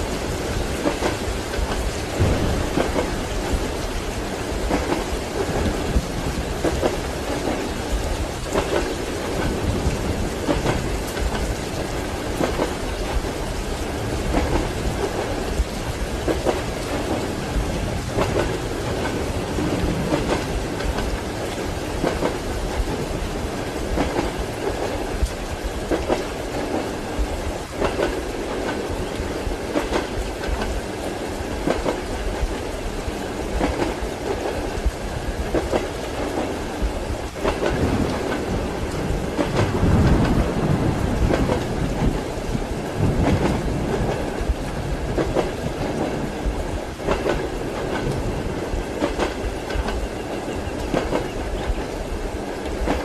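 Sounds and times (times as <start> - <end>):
rain: 0.0 - 53.0
train wheels clattering: 0.0 - 53.0.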